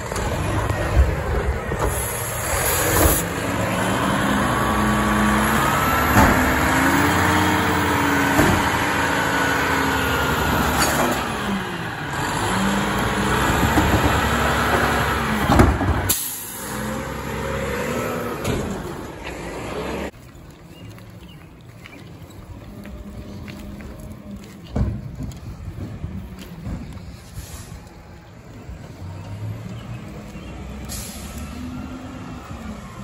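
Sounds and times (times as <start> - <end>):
cart clanking: 0.0 - 31.4
truck engine and hydraulics: 0.0 - 33.0.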